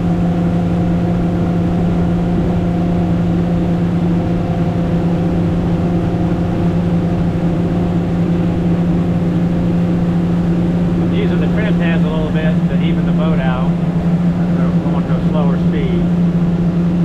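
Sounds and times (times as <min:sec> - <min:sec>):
low water rush: 0:00.0 - 0:17.0
outboard engine drone: 0:00.0 - 0:17.0.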